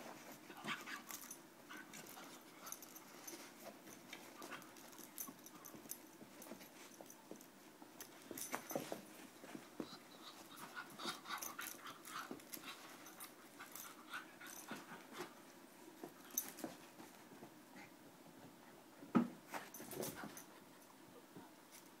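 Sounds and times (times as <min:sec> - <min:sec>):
paws scuffling on carpet: 0:00.0 - 0:17.9.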